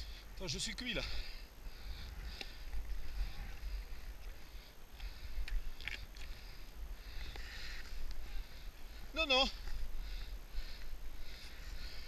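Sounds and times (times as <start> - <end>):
person breathing heavily: 0.0 - 12.0.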